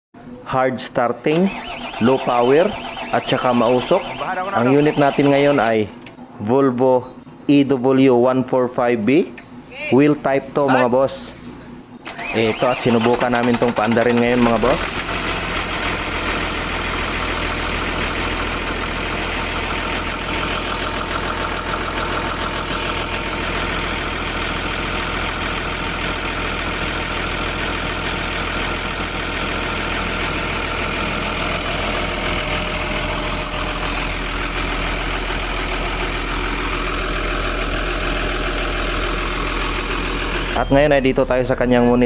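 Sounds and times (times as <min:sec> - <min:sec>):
diesel engine idling: 0:01.3 - 0:07.8, 0:09.5 - 0:42.0.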